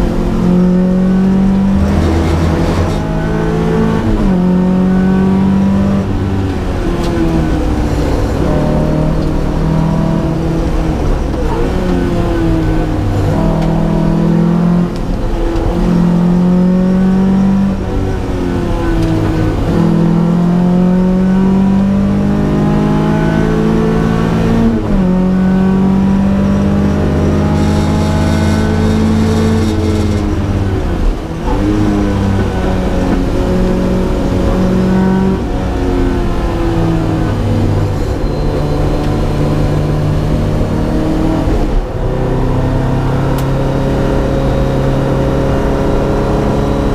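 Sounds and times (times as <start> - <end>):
rally car engine driven hard: 0.0 - 46.9.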